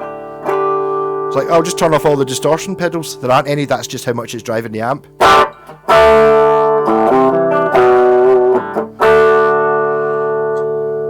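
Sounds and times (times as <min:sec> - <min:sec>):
electric guitar chords: 0:00.0 - 0:11.0.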